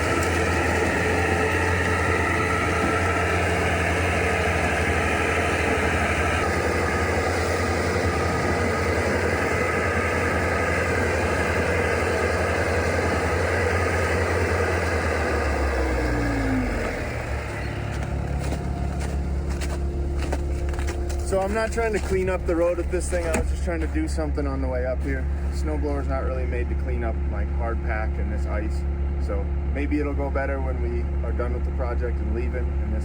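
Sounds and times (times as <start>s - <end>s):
falling machine whine: 0.0s - 29.6s
diesel engine running under load: 0.0s - 33.0s.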